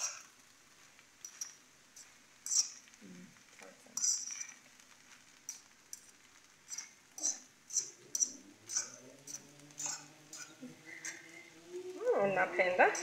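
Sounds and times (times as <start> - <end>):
fork scraping a frying pan: 0.0 - 11.4.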